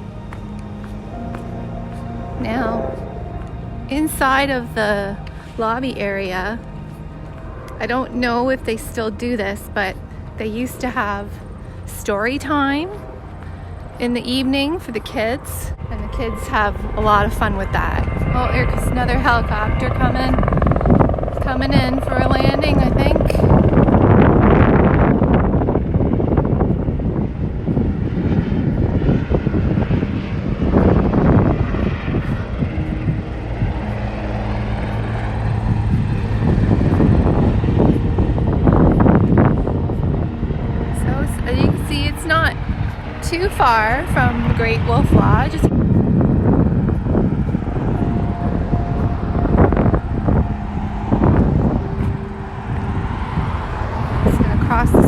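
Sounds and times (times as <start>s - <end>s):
helicopter engine and rotor: 0.0s - 55.0s
steady hum: 0.0s - 55.0s
traffic passing: 0.0s - 55.0s
wind buffeting microphone: 0.0s - 55.0s.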